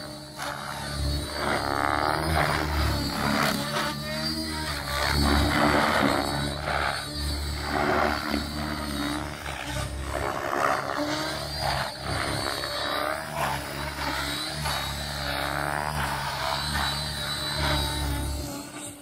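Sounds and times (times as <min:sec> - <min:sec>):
electric motor whining: 0:00.0 - 0:19.0
rc helicopter rotor whirring: 0:00.0 - 0:19.0.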